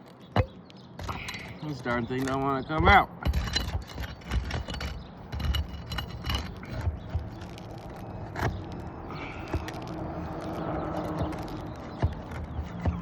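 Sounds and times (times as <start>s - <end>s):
hand tool scraping roof shingle: 1.0s - 13.0s.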